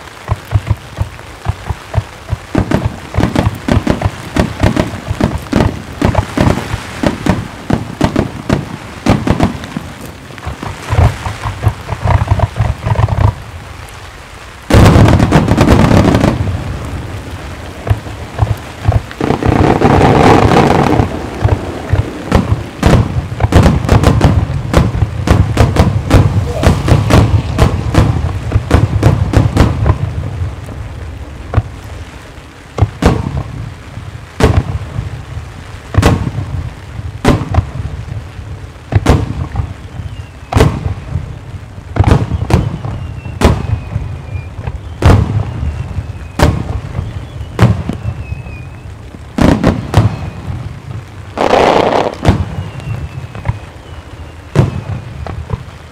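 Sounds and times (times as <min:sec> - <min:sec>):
firework booms: 0:00.0 - 0:55.9.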